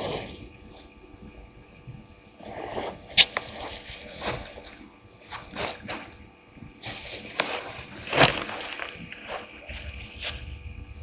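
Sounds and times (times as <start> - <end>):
elephant moving through dry grass: 0.0 - 1.0, 2.4 - 11.0.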